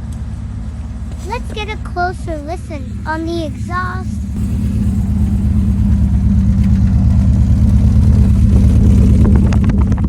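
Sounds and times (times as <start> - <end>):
car engine idling with exhaust drone: 0.0 - 10.0.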